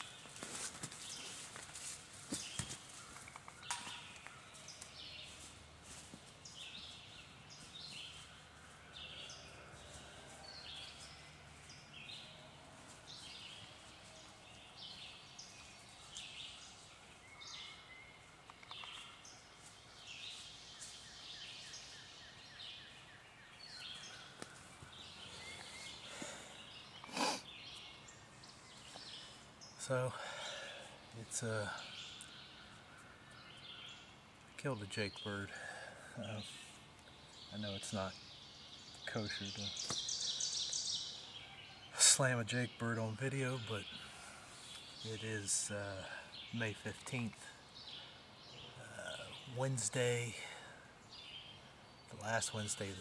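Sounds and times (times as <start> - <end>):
songbirds calling: 0.0 - 53.0.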